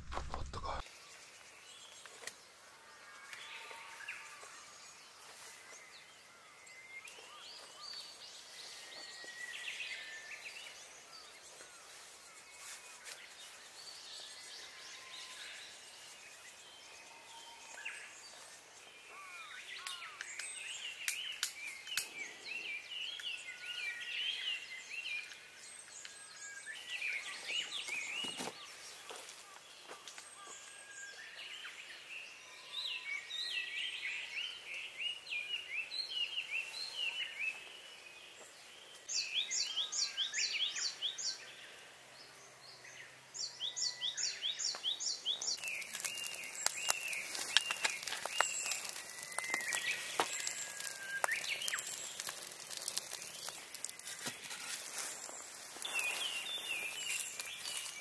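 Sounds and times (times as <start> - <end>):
faint outdoor hiss: 0.0 - 58.0
birds chirping and singing: 3.5 - 58.0.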